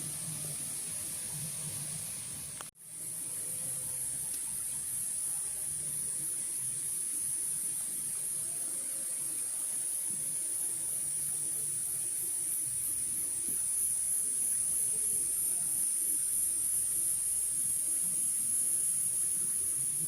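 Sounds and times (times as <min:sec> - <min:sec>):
running water: 0:00.0 - 0:20.0
insects chorus: 0:02.9 - 0:20.0.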